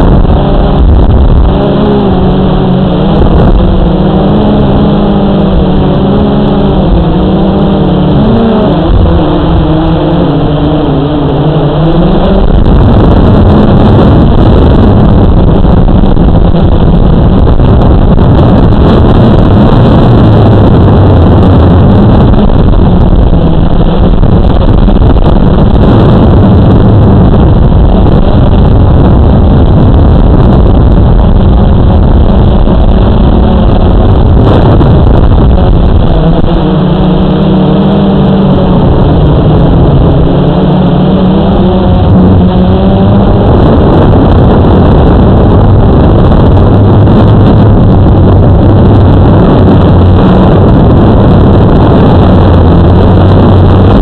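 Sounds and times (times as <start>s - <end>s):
drone propellers droning: 0.0s - 54.0s
rushing noise: 0.0s - 54.0s.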